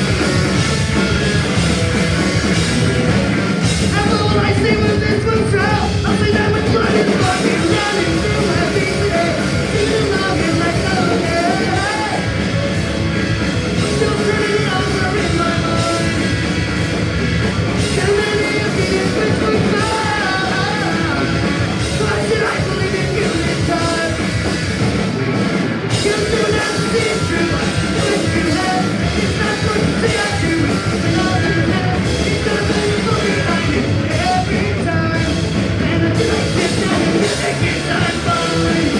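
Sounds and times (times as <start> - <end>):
lead vocal singing: 0.0 - 38.9
punk rock band playing live: 0.0 - 38.9.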